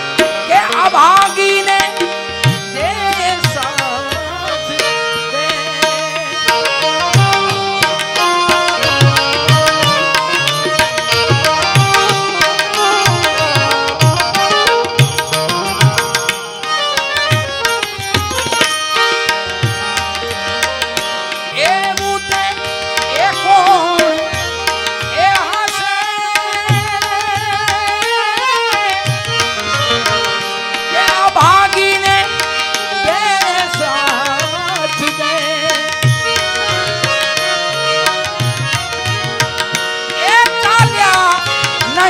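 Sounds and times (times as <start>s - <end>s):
harmonium holding notes: 0.0s - 42.0s
tabla strokes: 5.8s - 42.0s.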